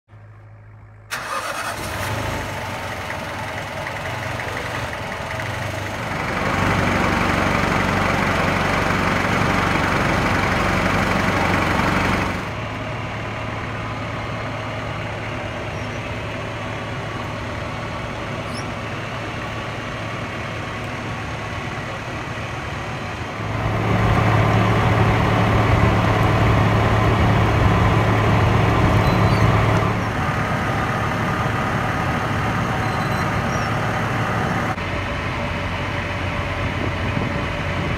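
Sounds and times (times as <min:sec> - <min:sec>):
boat engine humming: 0:00.2 - 0:37.9.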